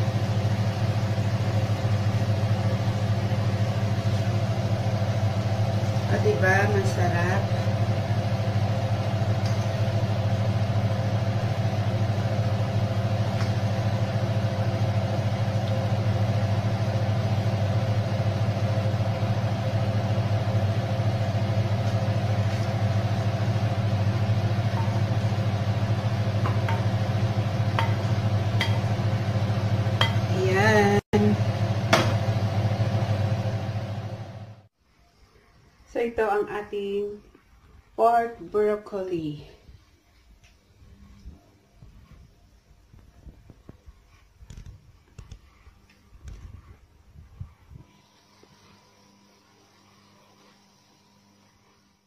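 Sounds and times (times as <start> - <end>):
range hood fan humming: 0.0 - 52.0.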